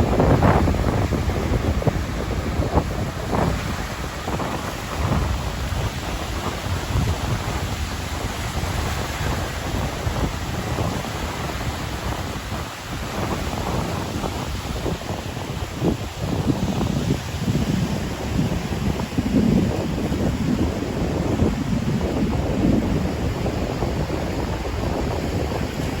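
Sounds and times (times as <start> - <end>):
surf breaking on shore: 0.0 - 26.0
wind buffeting microphone: 0.0 - 26.0.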